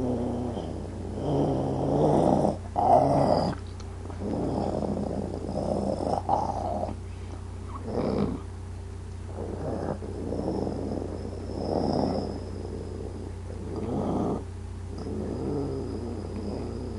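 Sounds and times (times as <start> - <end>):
person growling like a wolf: 0.0 - 7.0, 7.8 - 8.5, 9.3 - 16.9.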